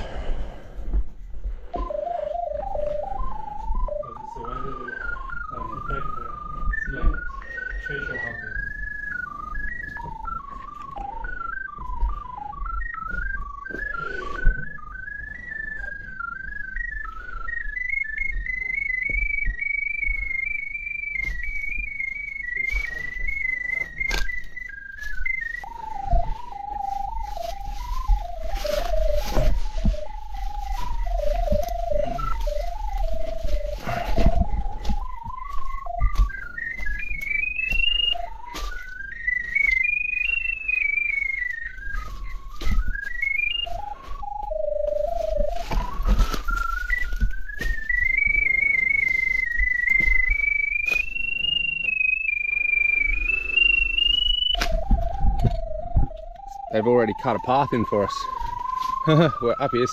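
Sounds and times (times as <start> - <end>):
electronic locator tone: 1.6 - 59.9.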